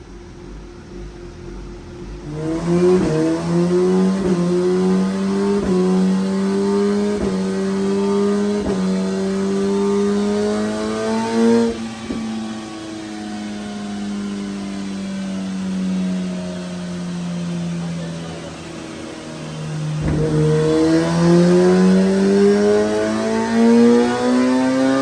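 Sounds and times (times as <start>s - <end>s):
motorcycle engine revving on dyno: 1.9s - 25.0s.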